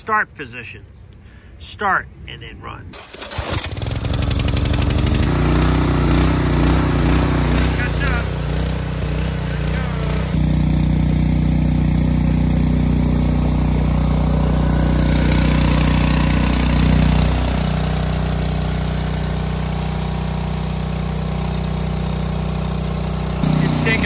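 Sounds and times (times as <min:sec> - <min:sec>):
small gasoline engine running: 0:03.0 - 0:24.0
water jetting onto grass: 0:04.3 - 0:24.0.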